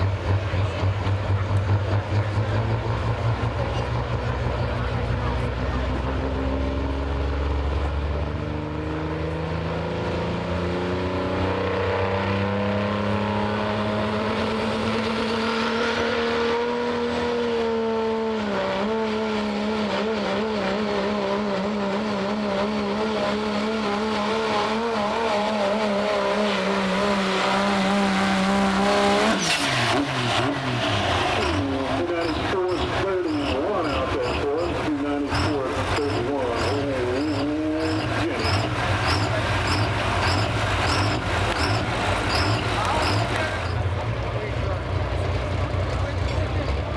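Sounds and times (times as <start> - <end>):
diesel truck engine at full power: 0.0 - 46.9.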